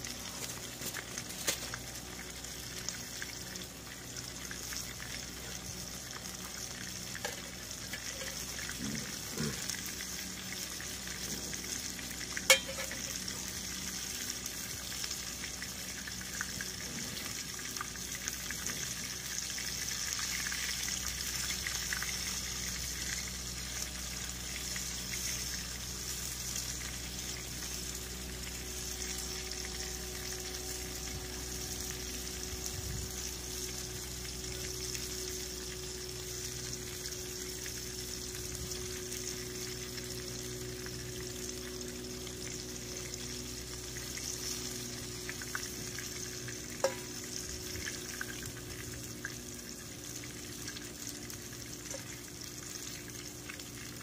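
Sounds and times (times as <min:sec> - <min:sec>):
noodles sizzling in a pot: 0:00.0 - 0:54.0.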